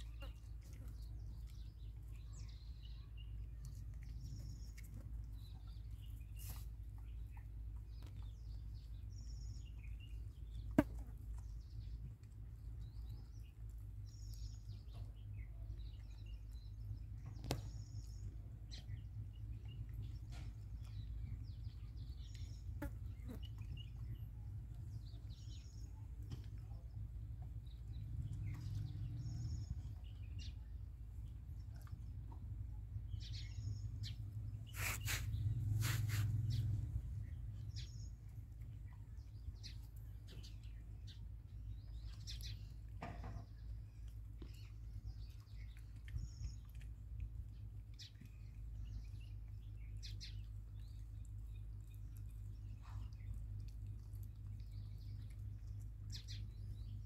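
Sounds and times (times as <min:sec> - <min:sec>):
low outdoor rumble: 0:00.0 - 0:57.0
small birds chirping: 0:00.0 - 0:57.0.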